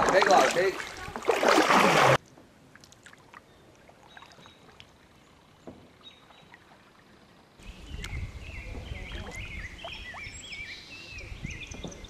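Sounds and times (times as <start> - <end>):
water drips and small splashes: 0.0 - 10.4.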